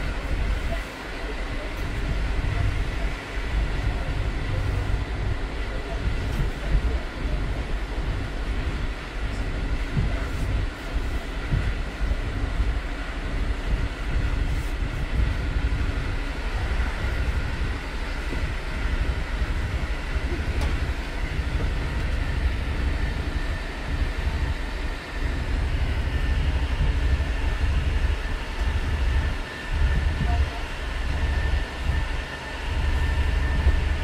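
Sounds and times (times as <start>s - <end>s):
faint high whine: 0.0s - 34.0s
train rumble: 0.0s - 34.0s.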